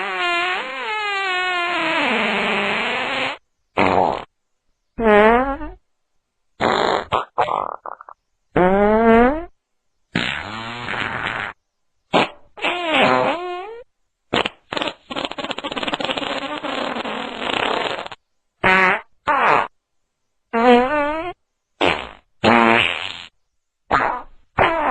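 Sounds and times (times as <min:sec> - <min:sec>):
fart sound effects: 0:00.0 - 0:04.3, 0:05.0 - 0:05.8, 0:06.6 - 0:09.5, 0:10.1 - 0:19.8, 0:20.5 - 0:24.9.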